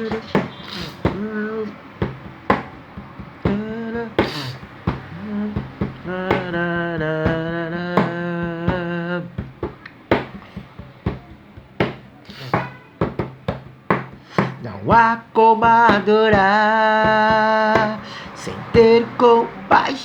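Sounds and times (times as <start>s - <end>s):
steady drum beat: 0.0s - 20.0s
wordless sung melody: 0.0s - 20.0s
worship music instrumental: 0.0s - 20.0s.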